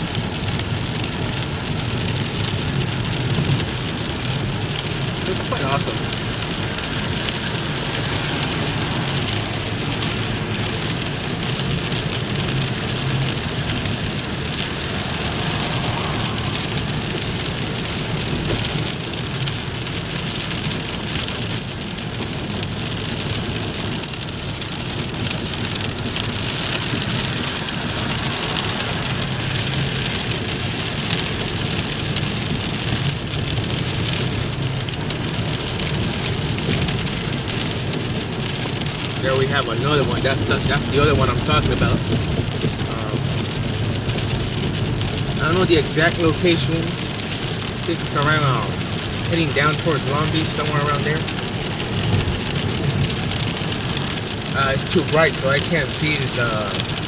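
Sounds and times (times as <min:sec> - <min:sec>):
heavy rain splashing: 0:00.0 - 0:57.0.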